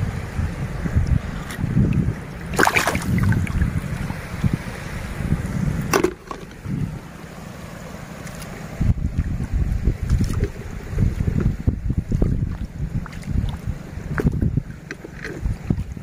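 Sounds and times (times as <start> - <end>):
wind buffeting microphone: 0.0 - 7.2, 8.6 - 16.0.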